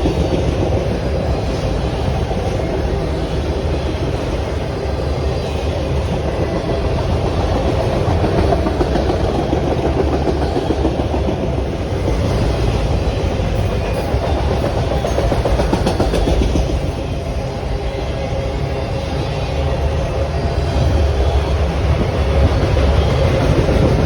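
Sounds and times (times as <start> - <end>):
clickety-clack of train wheels: 0.0 - 24.0
train rumbling past: 0.0 - 24.0.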